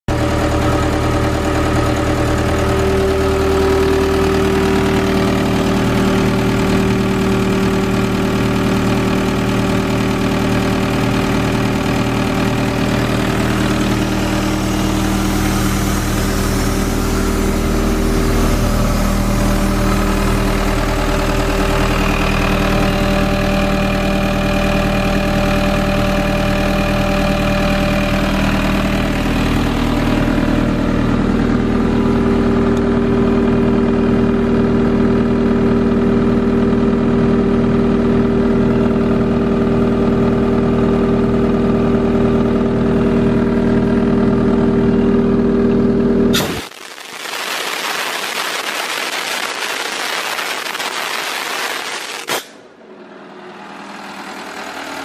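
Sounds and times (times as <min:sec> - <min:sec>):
diesel engine idling: 0:00.1 - 0:46.3, 0:52.6 - 0:55.0.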